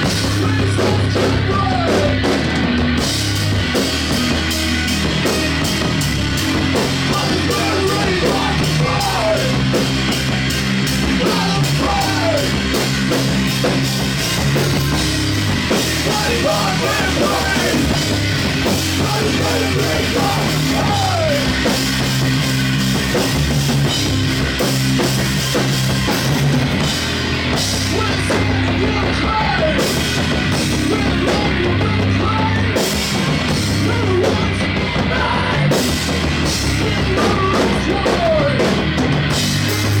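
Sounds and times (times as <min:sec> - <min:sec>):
heavy rock band playing: 0:00.0 - 0:40.0.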